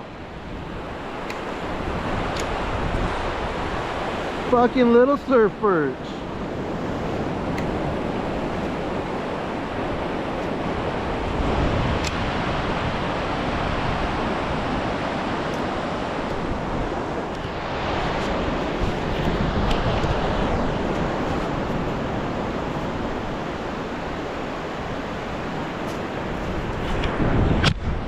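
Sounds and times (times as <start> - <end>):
ocean surf washing on beach: 0.0 - 28.0.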